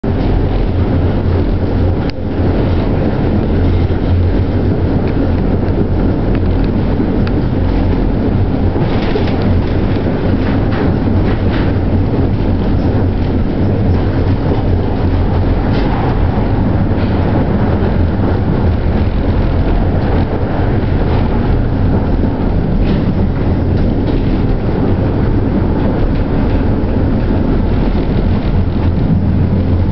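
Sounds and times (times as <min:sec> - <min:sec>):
tram rolling rumble: 0:00.0 - 0:29.9
wheels clacking on track: 0:00.0 - 0:29.9.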